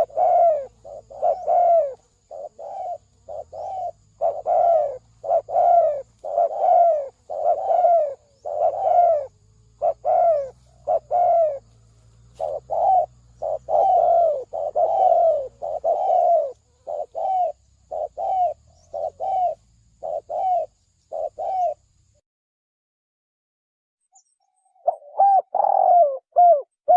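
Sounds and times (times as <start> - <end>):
dove cooing: 0.0 - 21.8, 24.8 - 26.9.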